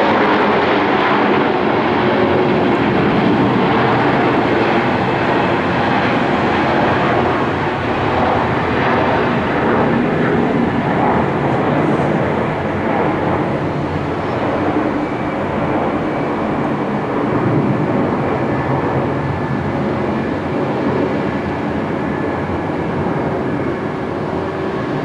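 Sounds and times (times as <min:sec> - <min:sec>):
distant jet engines rumbling: 0:00.6 - 0:25.0.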